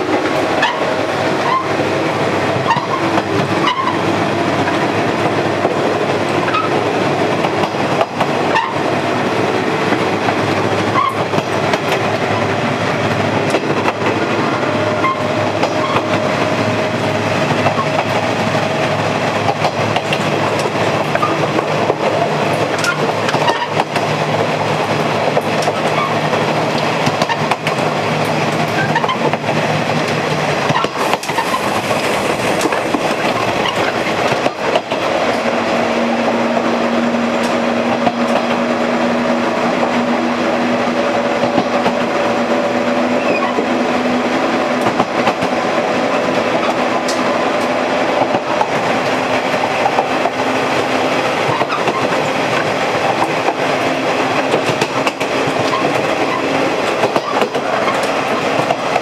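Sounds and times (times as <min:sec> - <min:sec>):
diesel railcar running noise: 0:00.0 - 0:59.0
wheels clicking over rail joints: 0:00.1 - 0:35.6, 0:41.1 - 0:59.0.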